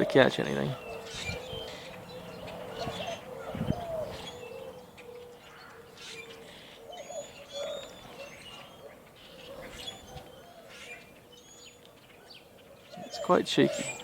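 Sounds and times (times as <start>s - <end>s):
bird cooing: 0.0s - 14.0s.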